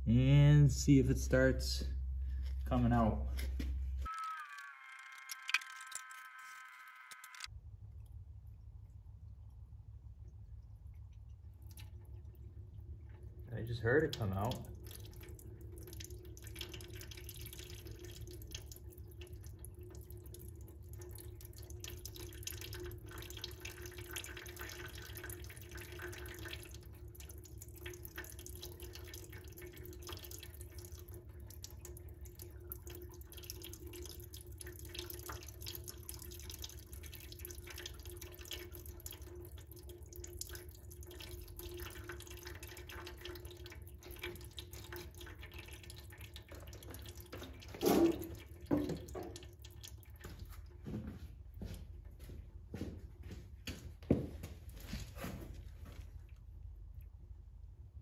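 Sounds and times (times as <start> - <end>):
steady low hum: 0.0 - 4.1, 5.9 - 58.0
liquid trickling and dripping: 2.0 - 58.0.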